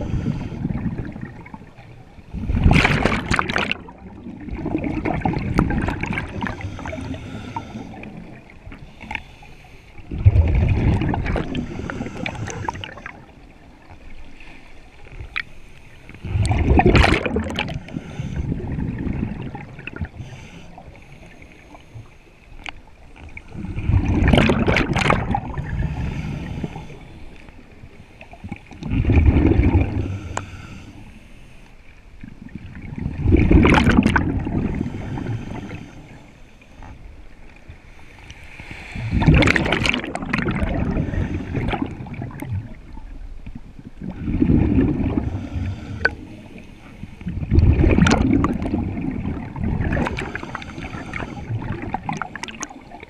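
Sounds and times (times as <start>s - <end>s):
underwater exhaled bubbles gurgling: 0.0s - 9.4s, 10.0s - 22.0s, 23.0s - 31.0s, 32.2s - 36.2s, 36.8s - 53.0s.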